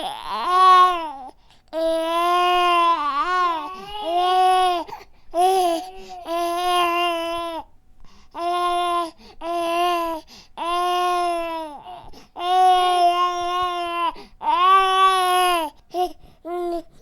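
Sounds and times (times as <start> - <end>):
baby crying: 0.0 - 7.7, 8.4 - 17.0.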